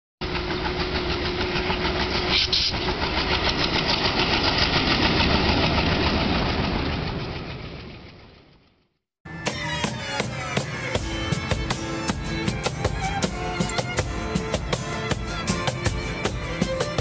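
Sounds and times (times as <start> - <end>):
diesel locomotive engine throbbing: 0.2 - 17.0.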